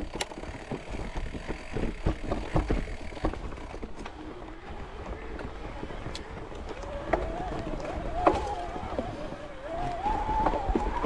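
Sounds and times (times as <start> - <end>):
bike tyres rumbling on dirt trail: 0.0 - 11.0
wind rumbling on microphone: 0.0 - 11.0.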